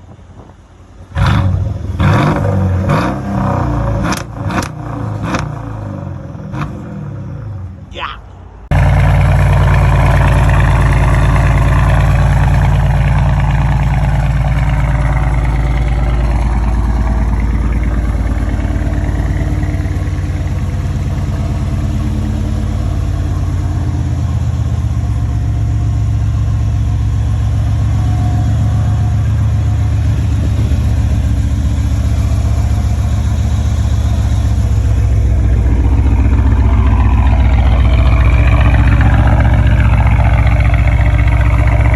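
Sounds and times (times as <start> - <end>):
car engine deep drone: 0.0 - 41.9.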